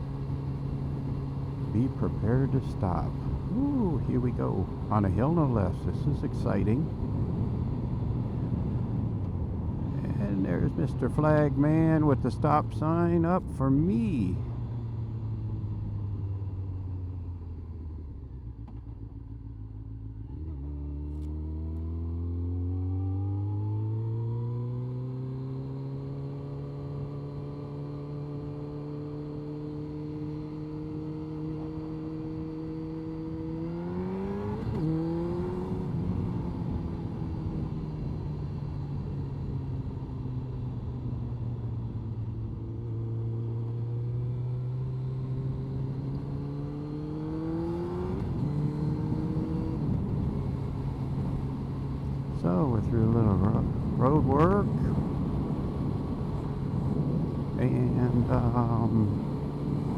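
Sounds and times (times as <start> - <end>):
motorcycle engine accelerating: 0.0 - 59.9
wind and road noise: 0.0 - 59.9.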